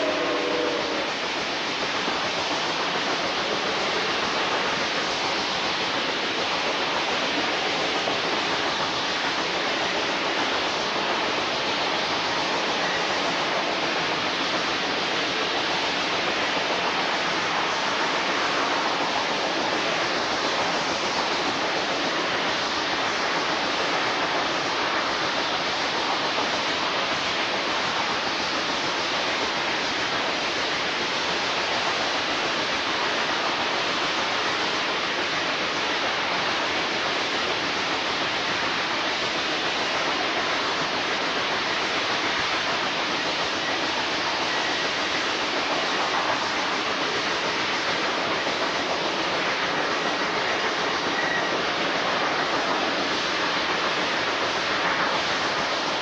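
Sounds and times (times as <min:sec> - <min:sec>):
train rushing noise: 0:00.0 - 0:56.0.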